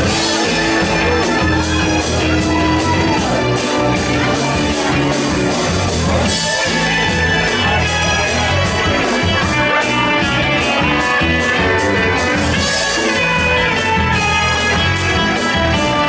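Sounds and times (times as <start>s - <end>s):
drum kit beat: 0.0s - 16.0s
electric bass: 0.0s - 16.0s
live rock band playing: 0.0s - 16.0s.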